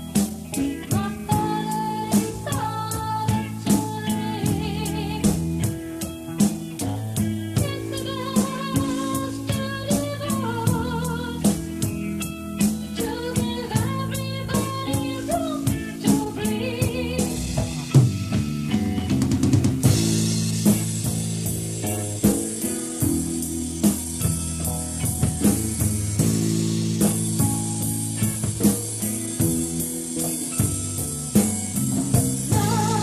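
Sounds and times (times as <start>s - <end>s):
bass guitar: 0.0s - 33.0s
drum fill: 0.0s - 33.0s
drum kit beat: 0.0s - 33.0s
electric guitar: 0.0s - 33.0s.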